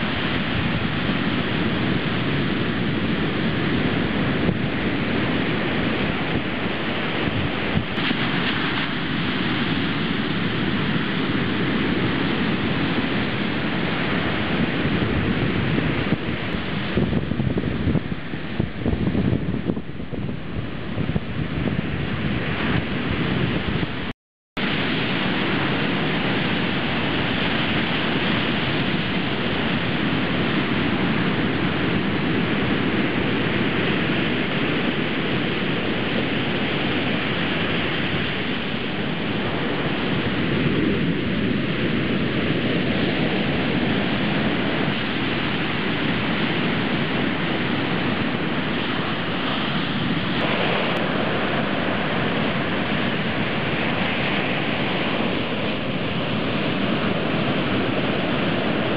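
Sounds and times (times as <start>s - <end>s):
ocean surf breaking: 0.0s - 58.9s.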